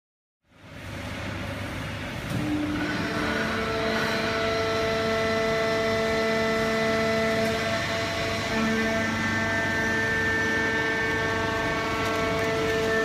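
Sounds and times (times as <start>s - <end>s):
machine hum: 0.5s - 13.0s
whine of held tones: 2.4s - 13.0s.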